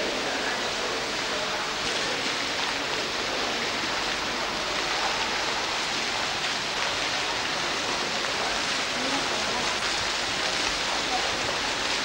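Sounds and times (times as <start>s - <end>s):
fountain water splashing into basin: 0.0s - 12.0s.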